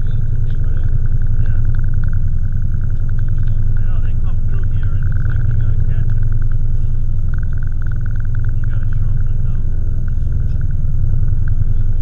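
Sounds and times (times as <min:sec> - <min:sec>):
boat engine droning: 0:00.0 - 0:12.0
faint high pulsing sound: 0:00.0 - 0:12.0.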